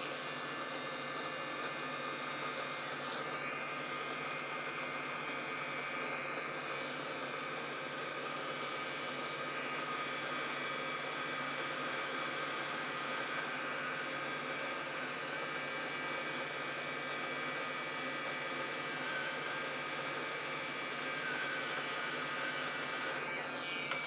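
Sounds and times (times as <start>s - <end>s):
faint whining tones: 0.0s - 24.0s.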